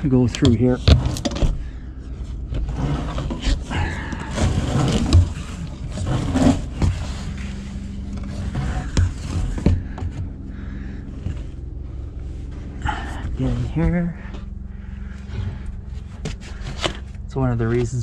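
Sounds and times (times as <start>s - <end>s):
rustling insulation: 0.0s - 18.0s.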